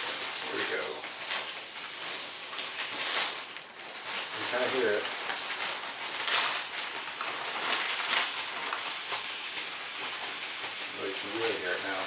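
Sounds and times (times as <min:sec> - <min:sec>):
plastic packing crinkling: 0:00.0 - 0:12.0.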